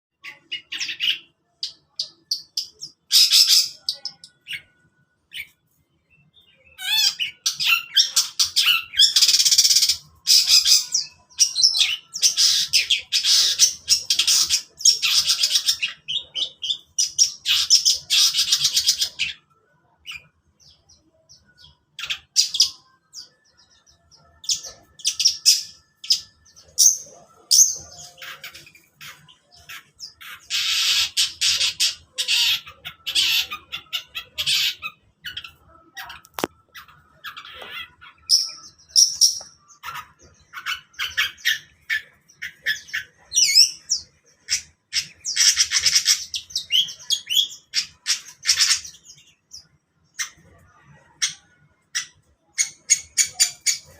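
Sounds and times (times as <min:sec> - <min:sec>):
bird harsh scratchy chattering song: 0:00.2 - 0:04.7, 0:06.6 - 0:19.5, 0:21.4 - 0:53.9.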